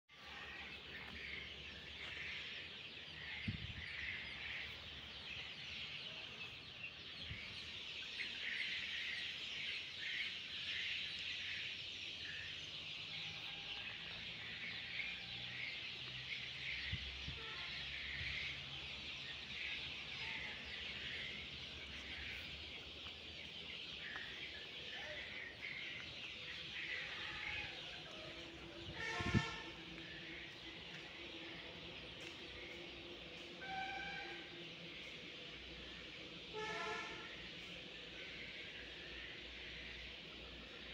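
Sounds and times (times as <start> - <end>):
birds chirping chorus: 0.1 - 40.9.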